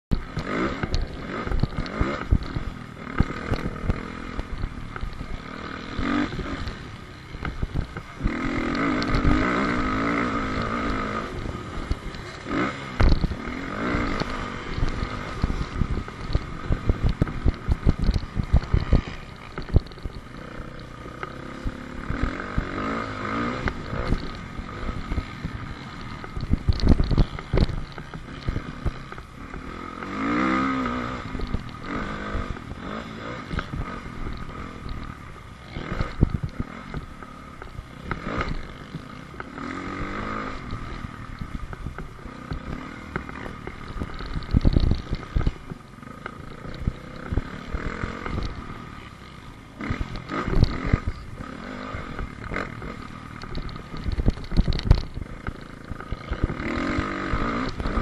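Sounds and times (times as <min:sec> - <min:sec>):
dirt bike engine revving: 0:00.1 - 0:58.0.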